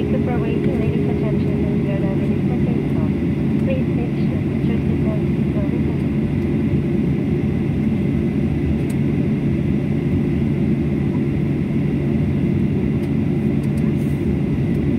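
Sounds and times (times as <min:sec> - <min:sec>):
aircraft cabin low rumble: 0:00.0 - 0:14.9.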